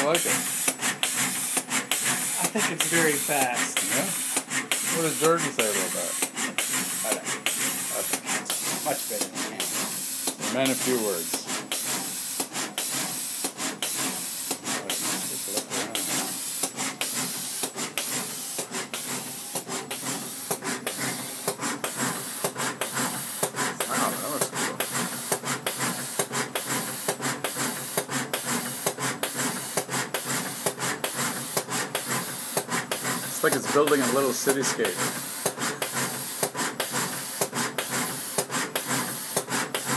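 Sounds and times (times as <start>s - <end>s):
pick-and-place machine hissing: 0.0s - 39.9s.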